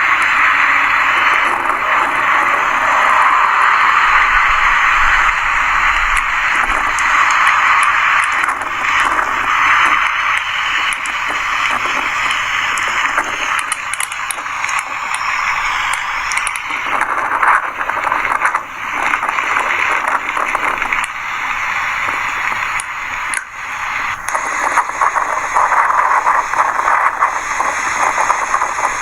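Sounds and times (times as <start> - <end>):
faint crackles: 0.0 - 29.0
steady rushing hiss: 0.0 - 29.0.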